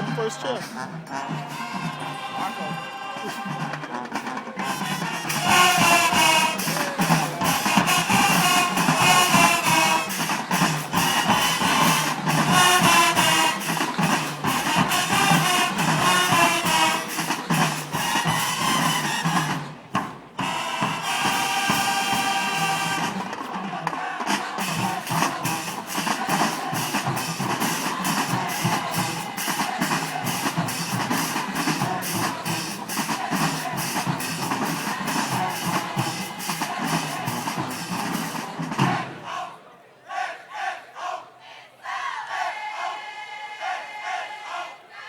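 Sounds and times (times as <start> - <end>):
marching band playing: 0.0 - 39.6.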